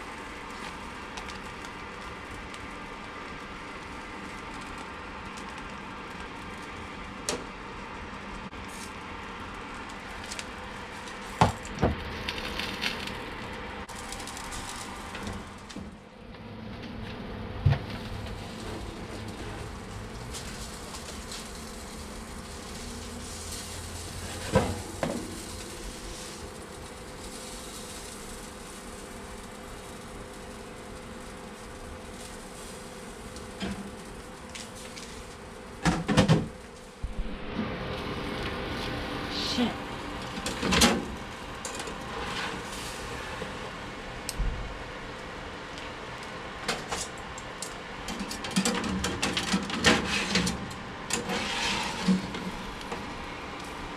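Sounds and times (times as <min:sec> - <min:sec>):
air fryer fan hum: 0:00.0 - 0:53.9.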